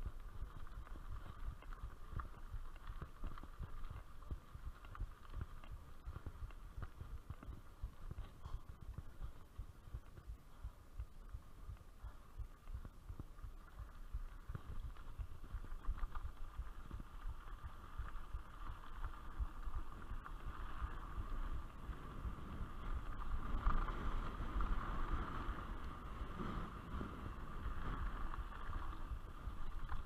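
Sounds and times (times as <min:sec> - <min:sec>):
rushing noise of bike ride: 0:00.0 - 0:30.0
wind buffeting microphone: 0:00.0 - 0:30.0.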